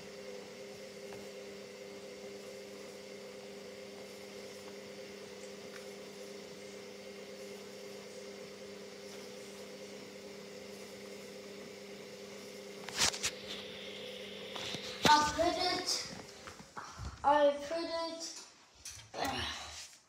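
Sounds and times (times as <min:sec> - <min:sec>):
washing machine humming: 0:00.0 - 0:19.7.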